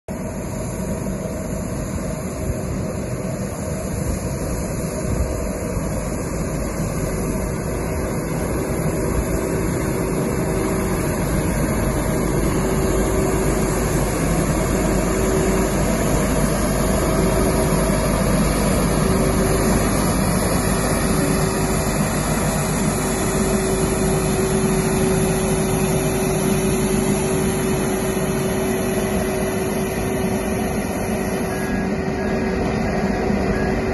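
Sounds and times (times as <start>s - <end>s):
diesel truck engine: 0.1s - 33.9s
steady whine: 0.1s - 33.9s.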